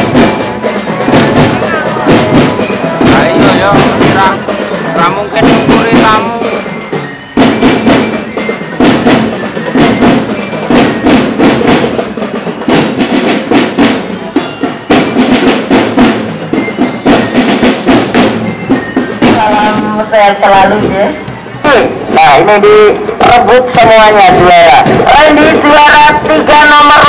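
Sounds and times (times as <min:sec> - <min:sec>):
marching drums: 0:00.0 - 0:27.0.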